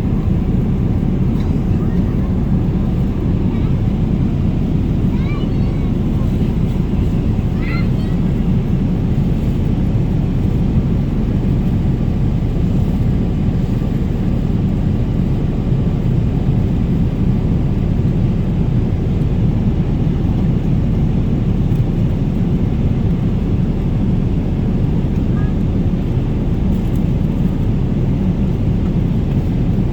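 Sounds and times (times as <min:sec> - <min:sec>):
vehicle low rumble: 0:00.0 - 0:29.9.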